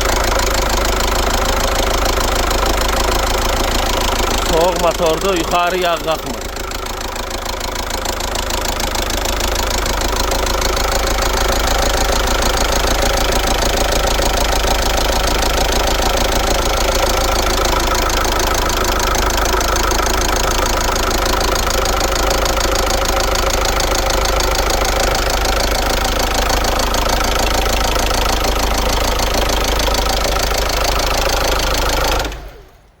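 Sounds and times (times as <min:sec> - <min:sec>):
fast engine valve ticking: 0:00.0 - 0:32.5
car engine idling: 0:00.0 - 0:33.0.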